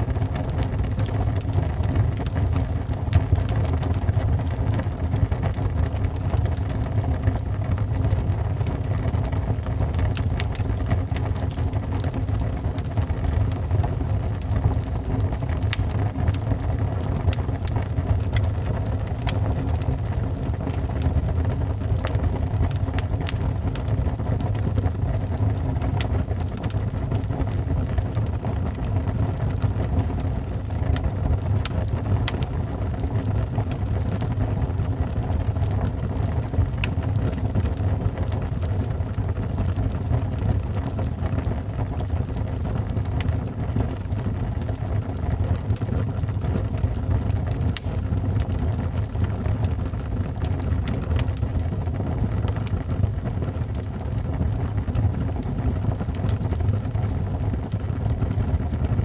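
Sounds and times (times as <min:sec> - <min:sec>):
fire flames rumbling: 0:00.0 - 0:59.0
logs popping and crackling: 0:00.0 - 0:59.0.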